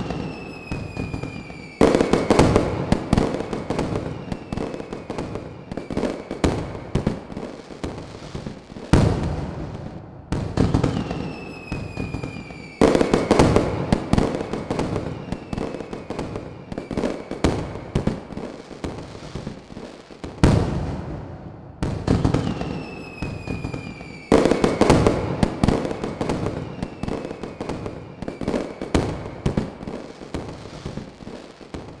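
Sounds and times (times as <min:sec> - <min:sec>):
big firework bangs: 0:00.0 - 0:19.6, 0:20.2 - 0:32.0
fireworks crackling and popping: 0:00.0 - 0:32.0
whistling fireworks: 0:00.0 - 0:32.0.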